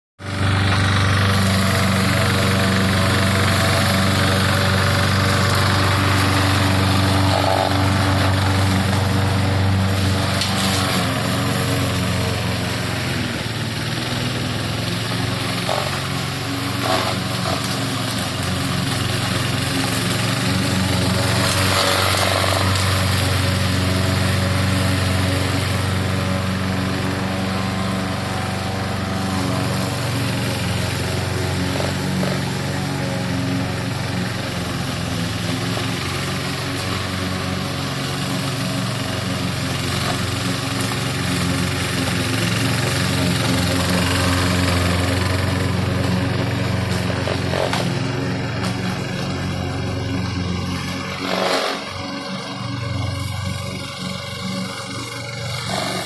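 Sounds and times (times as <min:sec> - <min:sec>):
lawn mower running: 0:00.2 - 0:56.0.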